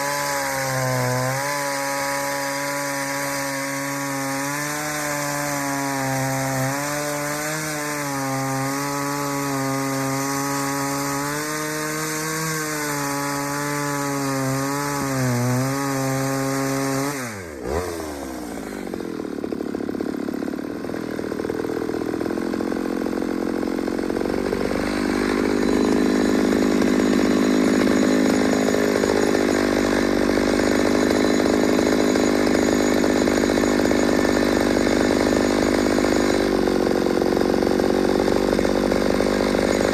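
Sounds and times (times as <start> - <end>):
chainsaw cutting at high revs: 0.0 - 39.9.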